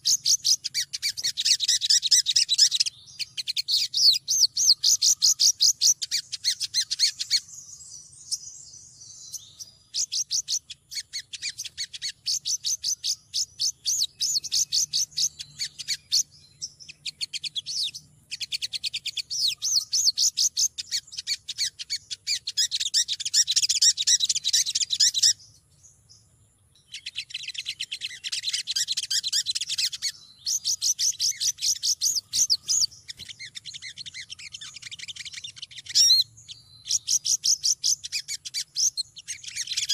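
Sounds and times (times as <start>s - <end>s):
sunbird chattering chirps: 0.0s - 39.9s.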